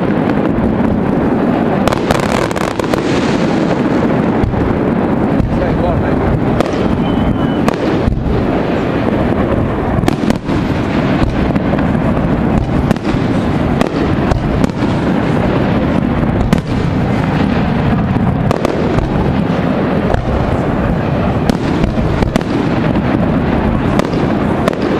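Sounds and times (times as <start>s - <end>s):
fireworks booming and crackling: 0.0s - 24.9s.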